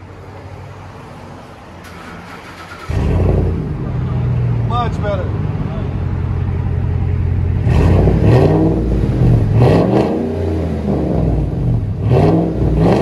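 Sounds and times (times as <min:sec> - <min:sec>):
vee-eight engine idling and revving: 0:01.9 - 0:13.0.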